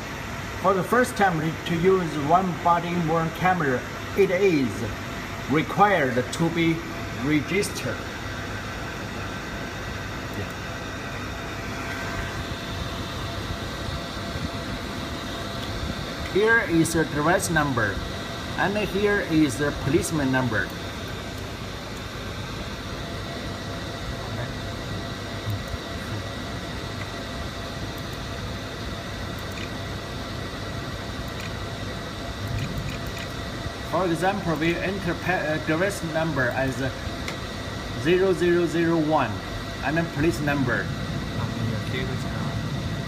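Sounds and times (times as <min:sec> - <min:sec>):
faint machine hum: 0:00.0 - 0:43.0.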